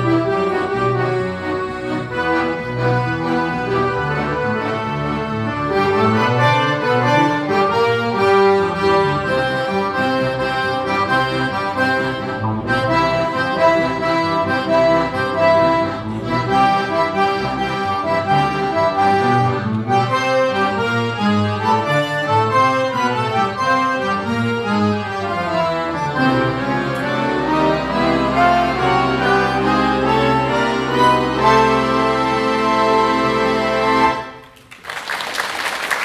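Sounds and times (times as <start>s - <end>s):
accordion orchestra playing: 0.0s - 34.5s.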